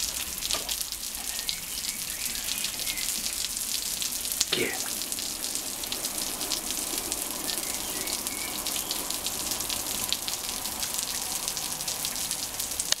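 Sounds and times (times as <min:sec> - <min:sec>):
water spray pattering on stone: 0:00.0 - 0:13.0.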